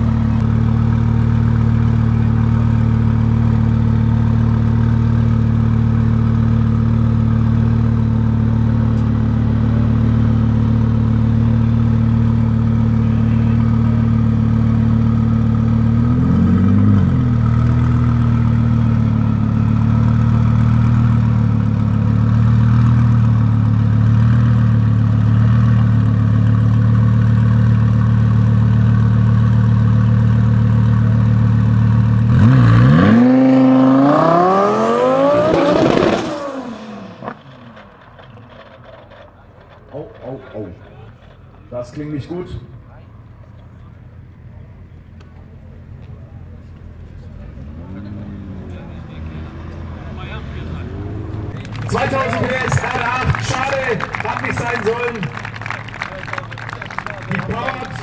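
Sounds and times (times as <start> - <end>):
car engine idling: 0.0 - 33.0, 36.6 - 58.0.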